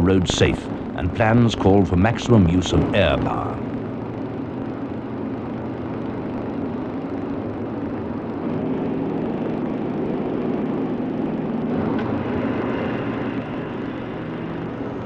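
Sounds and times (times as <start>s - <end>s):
piston aircraft engines droning: 0.0s - 15.0s.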